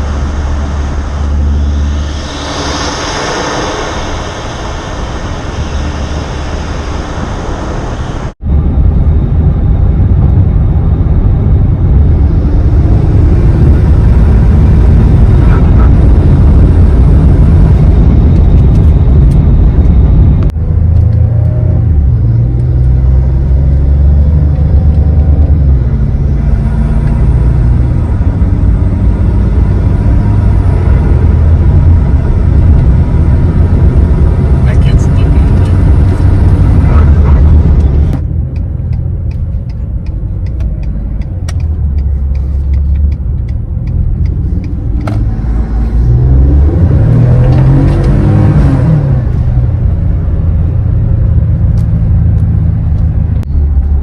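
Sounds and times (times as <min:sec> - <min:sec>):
truck engine running: 0:00.0 - 0:47.8
road rumble: 0:00.0 - 0:54.0
turbo spool and intake noise: 0:00.0 - 0:54.0.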